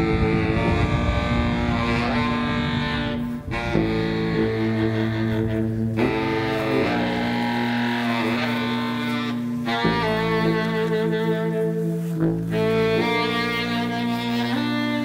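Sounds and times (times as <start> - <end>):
saxophones holding sustained notes: 0.0 - 15.0.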